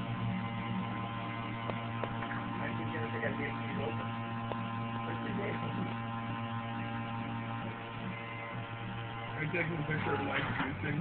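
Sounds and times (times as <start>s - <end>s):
juicer motor humming: 0.0s - 11.0s.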